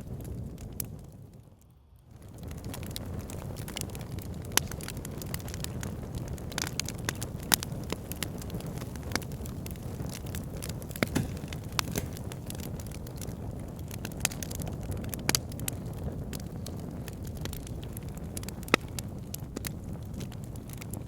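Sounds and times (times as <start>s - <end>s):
fire crackling and popping: 0.0s - 21.0s
low rush of flame: 0.0s - 21.0s.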